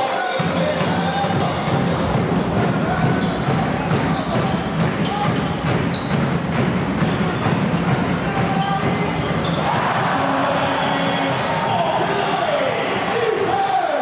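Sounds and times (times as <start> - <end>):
crowd murmur: 0.0 - 14.0.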